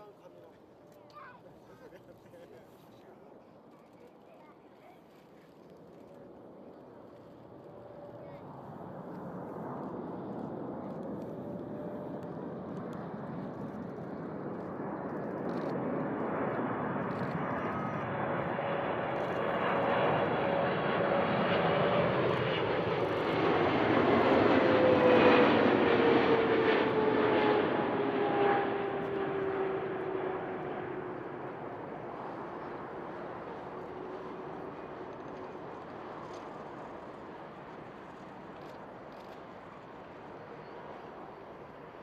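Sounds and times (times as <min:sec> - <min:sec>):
jet aircraft passing: 0:05.1 - 0:42.0
jet engine whine falling in pitch: 0:07.6 - 0:42.0.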